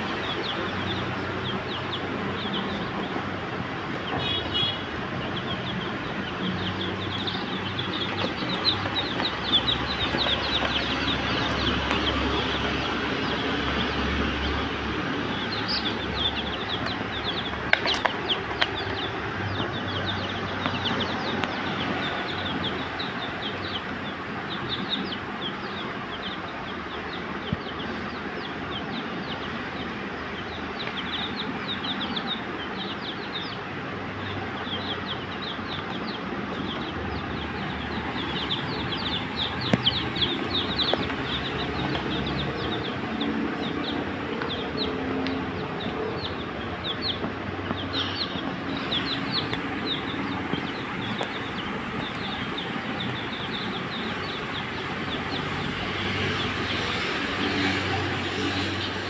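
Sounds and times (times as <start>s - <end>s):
chicks peeping: 0.0s - 59.0s
steady background noise: 0.0s - 59.0s.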